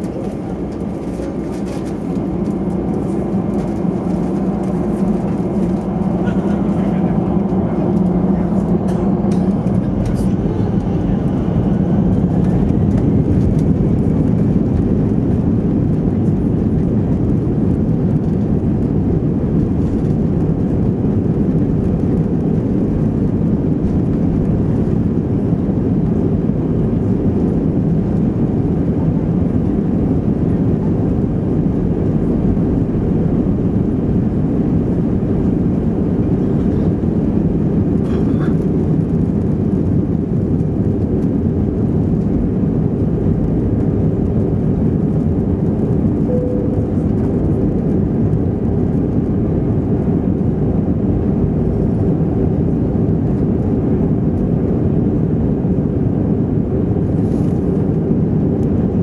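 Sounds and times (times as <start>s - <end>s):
jet engines roaring: 0.0s - 59.0s
runway rumble: 0.0s - 59.0s.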